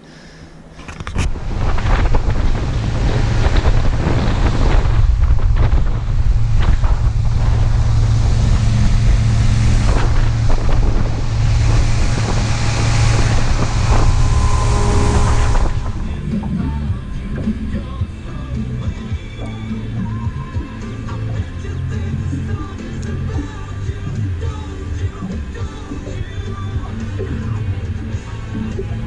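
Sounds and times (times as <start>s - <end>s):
hull slapping through water: 0.6s - 29.0s
wind buffeting microphone: 0.6s - 29.0s
outboard motor running: 0.7s - 29.0s.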